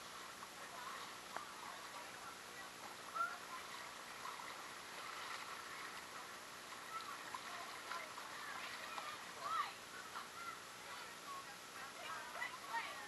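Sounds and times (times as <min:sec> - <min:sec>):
small water splashes: 0:00.0 - 0:11.2
creek water flowing: 0:00.0 - 0:13.0.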